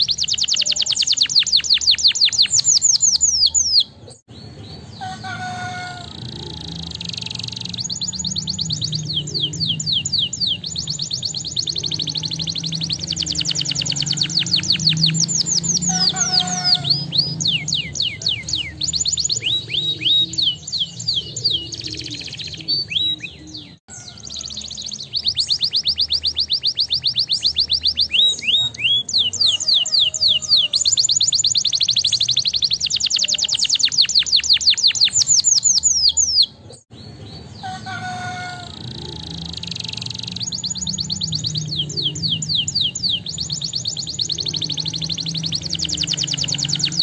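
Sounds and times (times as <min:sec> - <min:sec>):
canary singing trills: 0:00.0 - 0:47.0.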